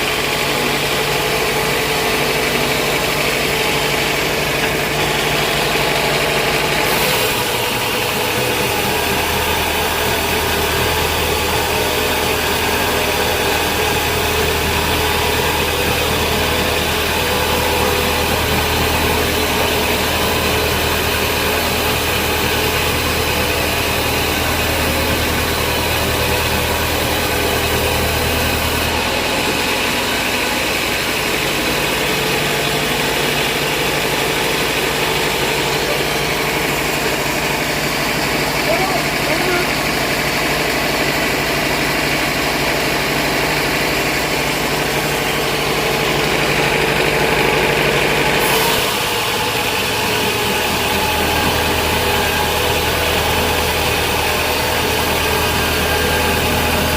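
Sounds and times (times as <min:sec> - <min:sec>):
band saw machinery running: 0:00.0 - 0:56.9.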